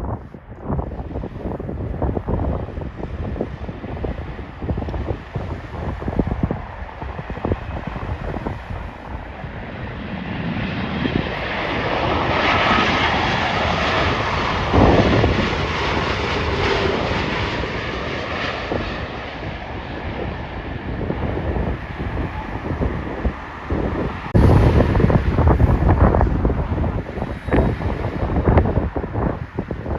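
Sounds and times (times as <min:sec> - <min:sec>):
jet airliner passing: 0:00.0 - 0:29.9
wind buffeting microphone: 0:00.0 - 0:29.9.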